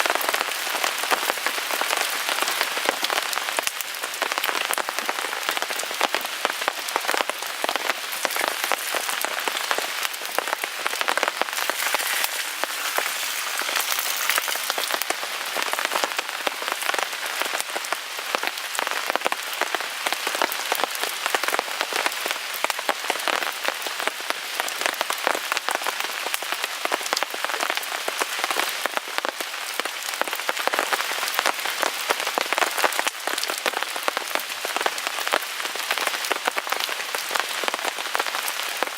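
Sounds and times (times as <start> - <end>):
rain pattering on a tarp: 0.0 - 38.9.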